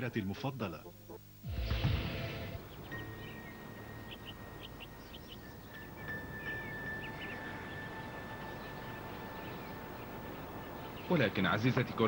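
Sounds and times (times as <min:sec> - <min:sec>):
outdoor background hiss: 0:00.0 - 0:12.0
birds chirping: 0:01.5 - 0:12.0.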